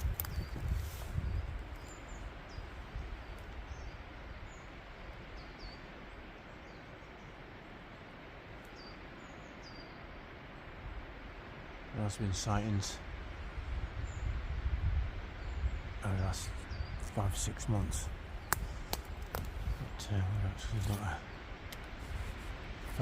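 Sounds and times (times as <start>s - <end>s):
small birds chirping: 0.0s - 23.0s
steady outdoor hiss: 0.0s - 23.0s.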